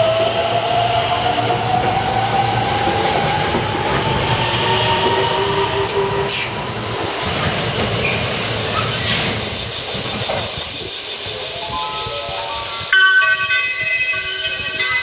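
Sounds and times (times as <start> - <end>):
wheels rumbling on rails: 0.0 - 15.0.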